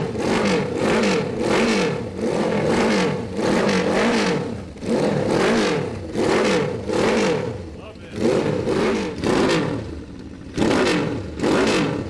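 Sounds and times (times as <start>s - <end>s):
minibike engine revving: 0.0s - 12.0s.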